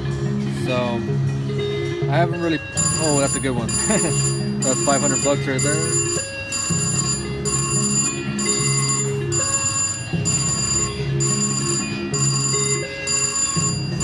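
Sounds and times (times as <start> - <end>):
slot machine win jingle: 2.1 - 14.0
other machine tones: 2.5 - 14.0.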